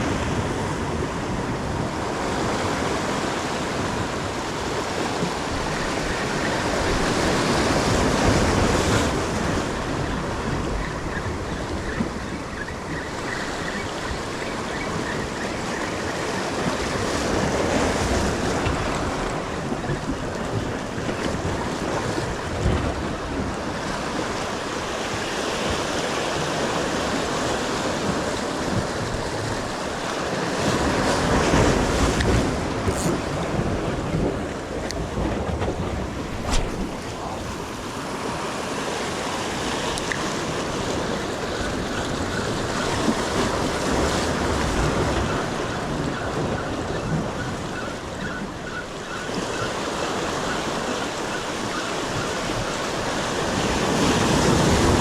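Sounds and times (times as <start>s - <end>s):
waves washing on shore: 0.0s - 55.0s
wind buffeting microphone: 0.0s - 55.0s.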